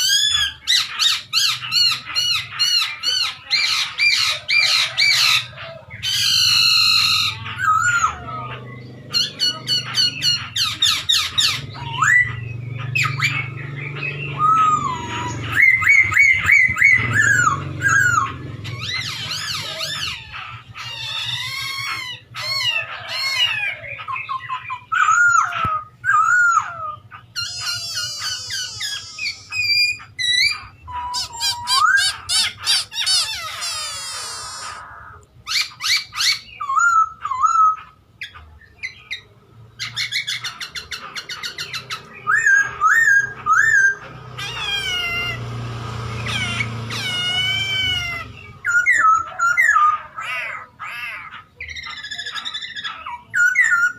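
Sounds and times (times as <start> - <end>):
laughingthrush singing: 0.0 - 53.9.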